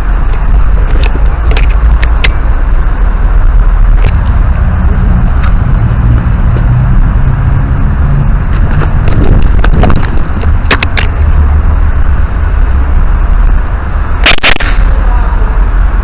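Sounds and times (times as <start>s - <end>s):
wind buffeting microphone: 0.0s - 14.2s.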